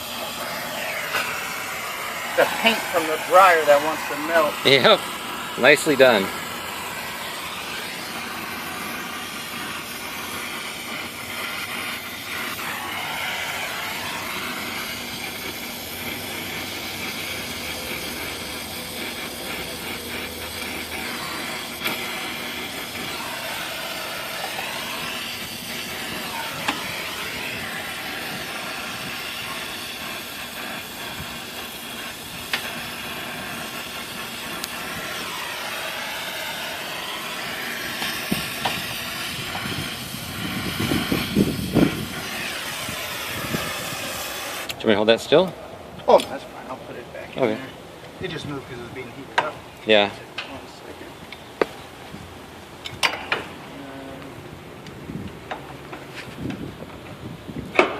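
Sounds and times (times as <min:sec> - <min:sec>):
torch flame hissing: 0:00.0 - 0:54.3.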